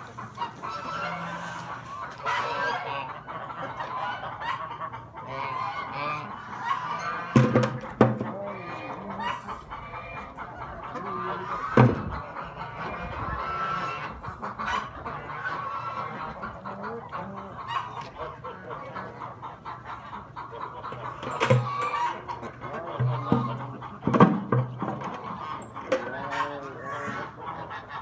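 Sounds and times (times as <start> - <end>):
fowl calling: 0.0 - 28.0.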